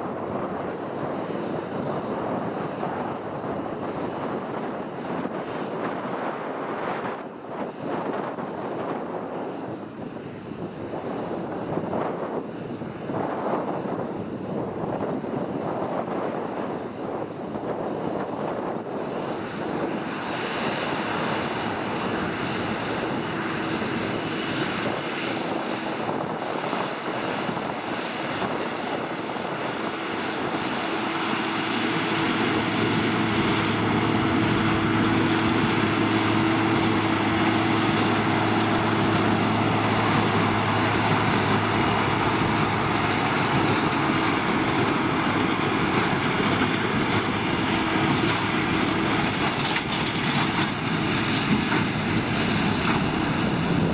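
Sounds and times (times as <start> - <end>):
tractor running under load: 0.0 - 53.9.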